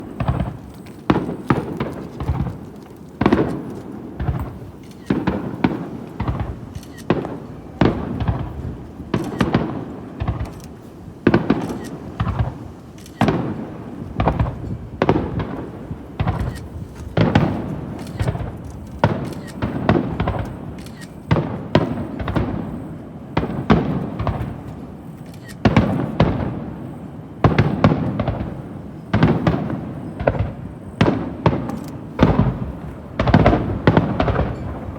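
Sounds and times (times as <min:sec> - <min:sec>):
fireworks booming: 0:00.0 - 0:34.9
small firework cracks: 0:00.0 - 0:34.9.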